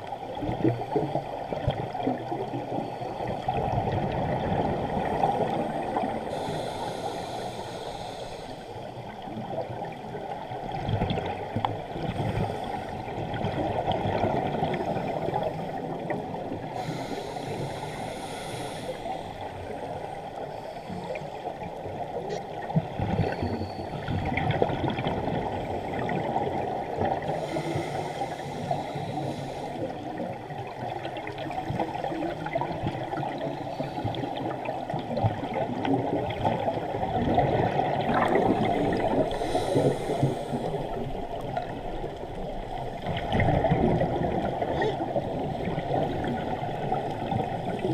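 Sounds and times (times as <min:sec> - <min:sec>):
muffled underwater rushing: 0:00.0 - 0:47.9.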